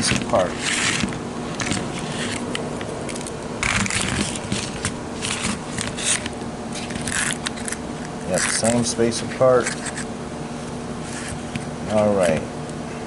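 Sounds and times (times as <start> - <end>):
rustling and scraping handling noise: 0.0 - 10.1, 11.0 - 12.4
faint steady hum: 0.0 - 13.0.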